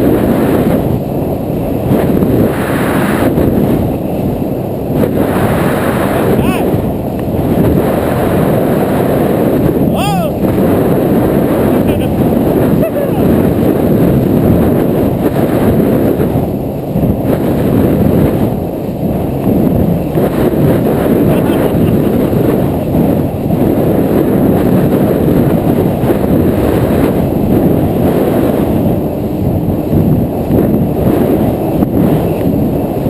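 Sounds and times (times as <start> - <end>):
jet ski engine: 0.0 - 33.0
water noise: 0.0 - 33.0
wind buffeting microphone: 0.0 - 33.0.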